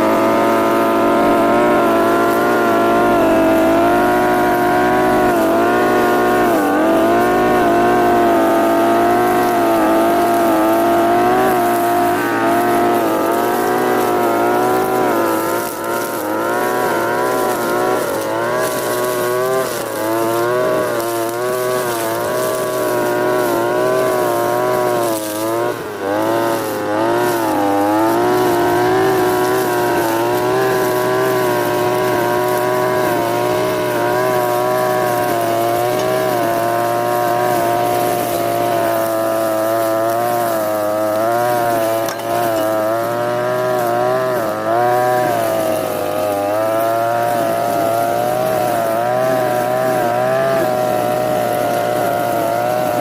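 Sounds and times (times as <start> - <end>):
brushcutter engine at high revs: 0.0 - 53.0.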